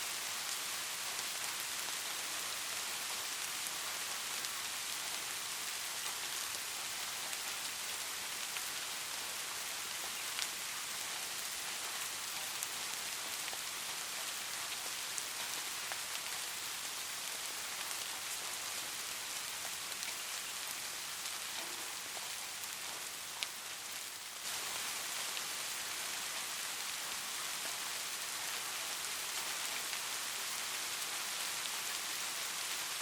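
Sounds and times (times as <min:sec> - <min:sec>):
light rain hissing: 0:00.0 - 0:33.0.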